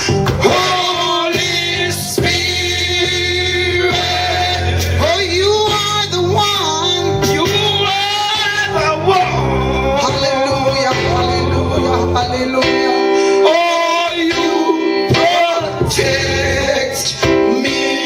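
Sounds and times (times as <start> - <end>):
person singing: 0.0 - 18.0
worship band with bass: 0.0 - 18.0.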